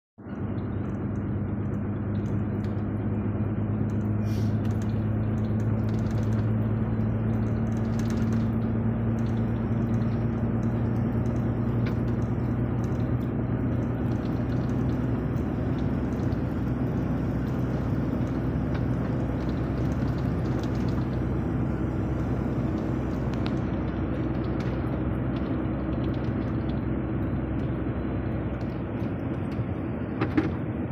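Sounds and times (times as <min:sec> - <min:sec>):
car engine hum: 0:00.2 - 0:30.9
tyre road noise: 0:00.2 - 0:30.9.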